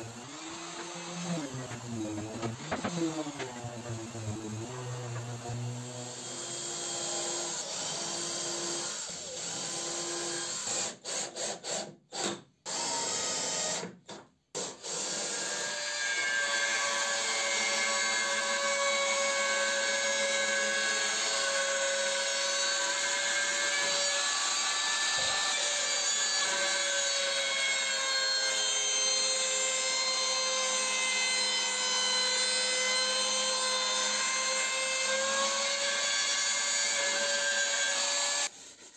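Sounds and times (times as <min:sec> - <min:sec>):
power tool working on wood: 0:00.0 - 0:11.0, 0:14.6 - 0:38.9.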